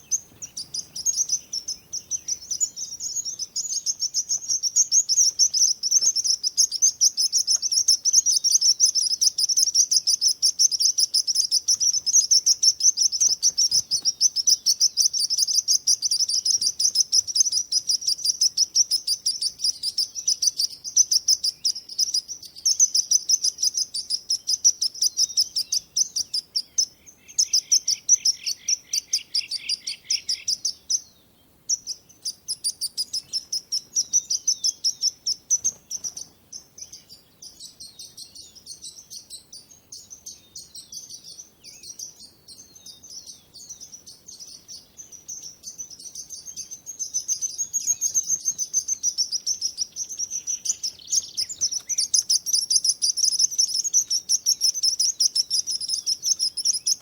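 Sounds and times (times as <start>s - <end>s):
lower-pitched bird chirps: 0.0s - 57.0s
songbirds chirping: 0.0s - 57.0s.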